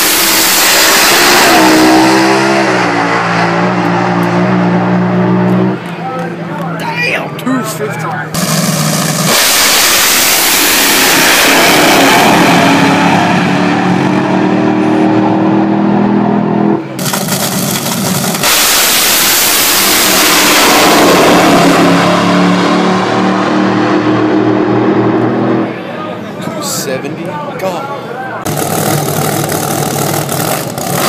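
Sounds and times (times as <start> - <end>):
racing car engines at full throttle: 0.0 - 31.0.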